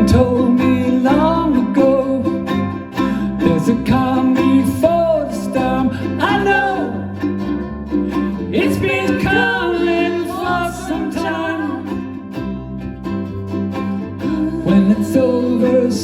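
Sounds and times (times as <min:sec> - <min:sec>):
people singing: 0:00.0 - 0:07.3, 0:08.1 - 0:12.2, 0:14.2 - 0:16.0
ukuleles strumming: 0:00.0 - 0:16.0.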